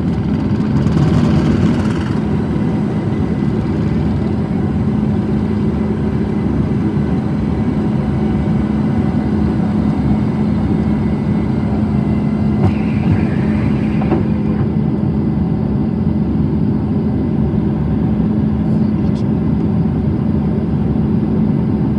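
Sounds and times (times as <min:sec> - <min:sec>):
jet engines in cabin: 0:00.0 - 0:21.9.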